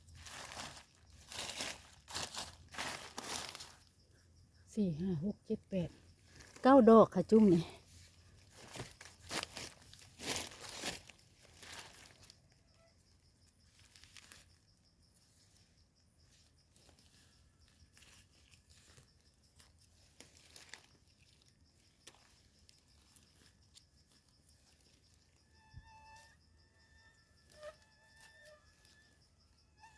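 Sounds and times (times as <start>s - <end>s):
rustling leaf litter and soil: 0.0s - 4.0s, 5.8s - 25.5s, 27.1s - 29.9s.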